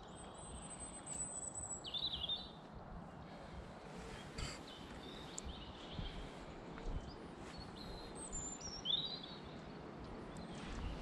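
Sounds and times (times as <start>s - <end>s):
birds chirping: 0.0s - 11.0s
outdoor background noise: 0.0s - 11.0s.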